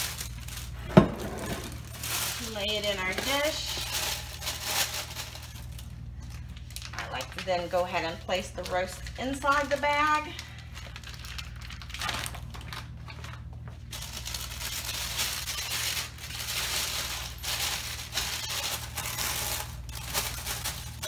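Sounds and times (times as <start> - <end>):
plastic cooking bag crinkling: 0.0 - 21.0.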